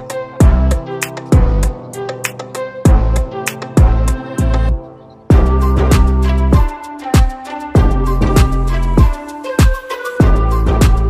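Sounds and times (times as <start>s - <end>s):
background music with drums and bass: 0.0s - 11.0s.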